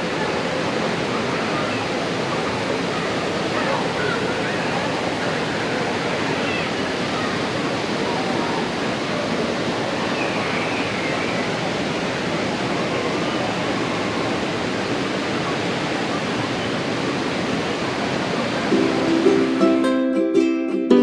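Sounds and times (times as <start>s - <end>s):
rush of moving water: 0.0s - 21.0s.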